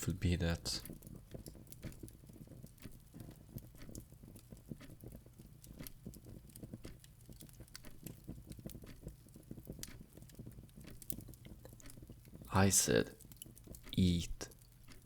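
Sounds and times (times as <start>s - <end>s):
light crackles and ticks: 0.0s - 15.0s.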